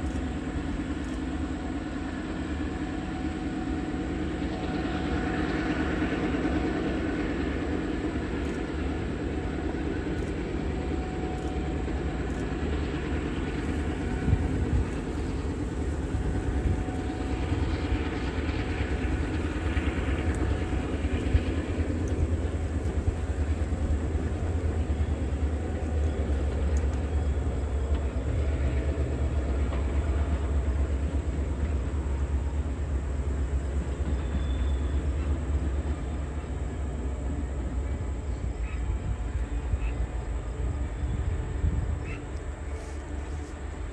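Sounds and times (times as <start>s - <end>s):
train rumbling past: 0.0s - 43.9s.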